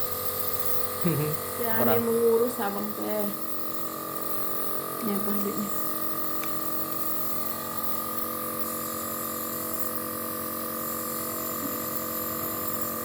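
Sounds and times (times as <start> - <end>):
nebulizer compressor humming: 0.0 - 13.0.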